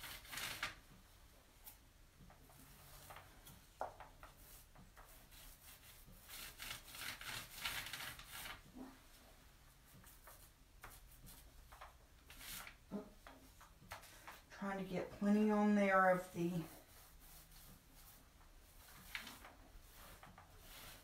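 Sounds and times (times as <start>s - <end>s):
paint roller rubbing strokes: 0.0s - 1.0s, 1.6s - 21.0s.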